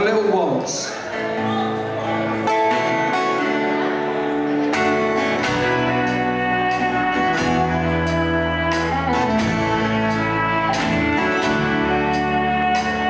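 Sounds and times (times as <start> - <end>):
electric guitar: 1.0 - 13.0
strummed acoustic guitar: 1.0 - 13.0
low bass notes: 1.2 - 13.0
fiddle: 2.1 - 13.0.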